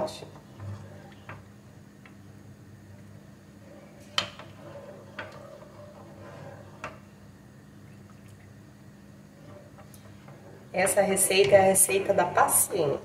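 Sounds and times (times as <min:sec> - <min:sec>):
soft stirring: 0:00.0 - 0:13.0.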